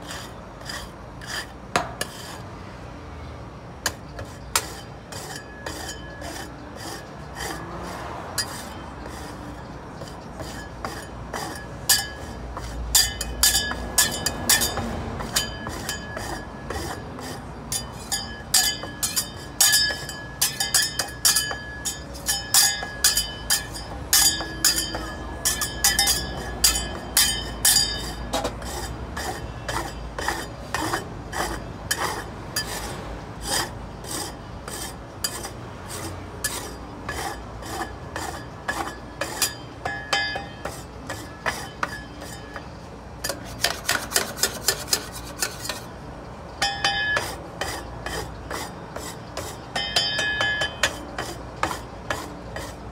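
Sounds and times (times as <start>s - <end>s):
metal spatulas scraping steel plate: 0.0s - 2.4s, 3.9s - 46.0s, 46.6s - 52.9s.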